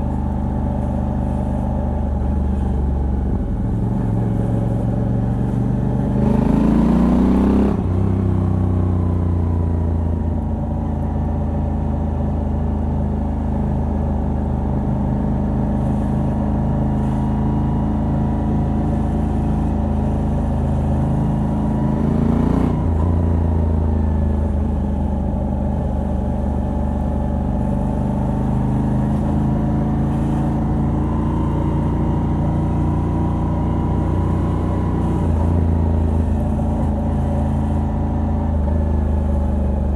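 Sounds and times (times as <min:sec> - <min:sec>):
motorcycle engine revving: 0:00.0 - 0:10.2, 0:14.0 - 0:39.9.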